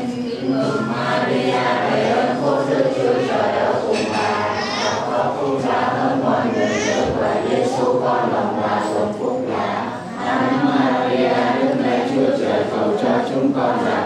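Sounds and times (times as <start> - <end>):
group chanting a prayer: 0.0 - 14.0.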